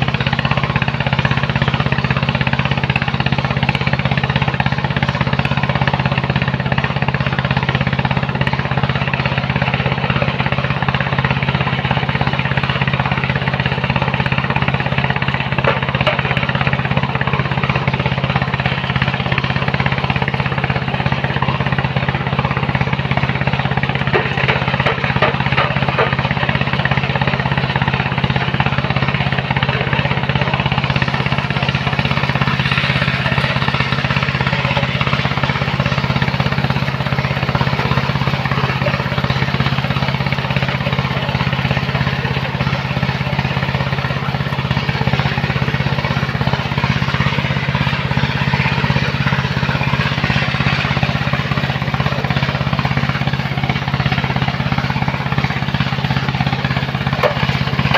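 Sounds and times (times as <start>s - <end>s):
machine engine droning: 0.0s - 57.9s.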